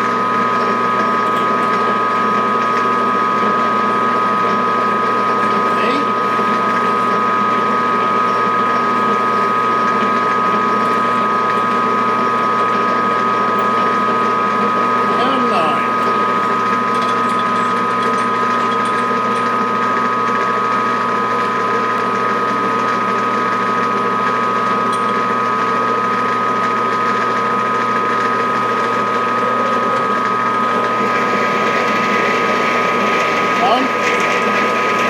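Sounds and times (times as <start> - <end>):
machine tool whine: 0.0 - 35.0.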